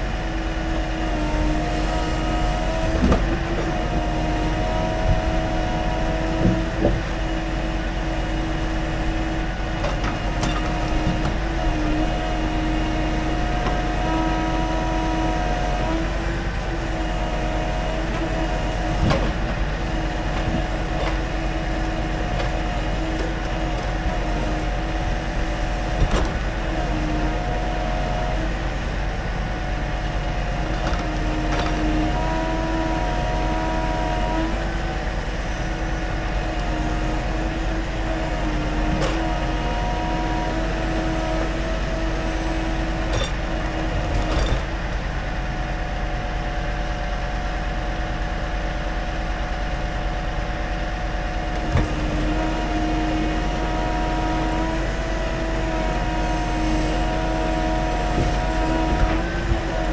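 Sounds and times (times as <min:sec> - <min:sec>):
truck engine and hydraulics running: 0:00.0 - 0:59.9.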